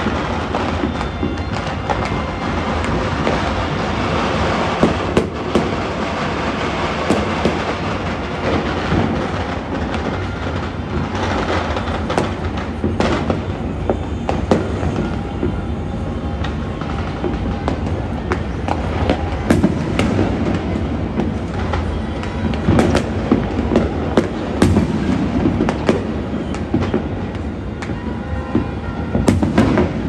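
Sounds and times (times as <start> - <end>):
firecrackers crackling: 0.0 - 30.0
sharp firework bangs: 0.0 - 30.0.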